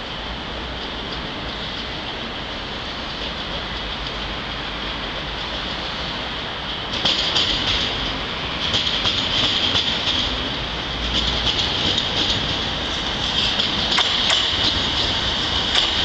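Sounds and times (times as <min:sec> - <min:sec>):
train rolling hiss: 0:00.0 - 0:16.0
train wheels clacking over rail joints: 0:00.6 - 0:16.0.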